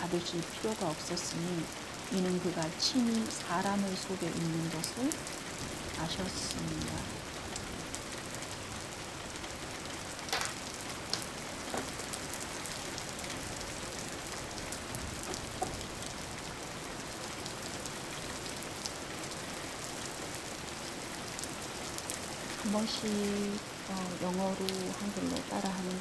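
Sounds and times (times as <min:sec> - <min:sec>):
steady rain hiss: 0:00.0 - 0:26.0
raindrop ticks: 0:00.1 - 0:20.2, 0:21.3 - 0:26.0.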